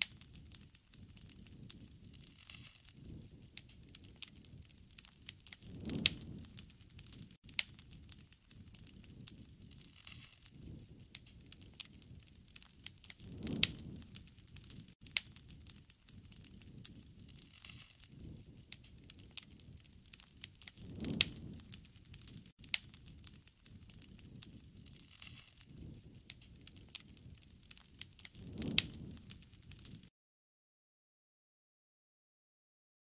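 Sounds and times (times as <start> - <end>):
campfire crackling and popping: 0.0 - 30.1.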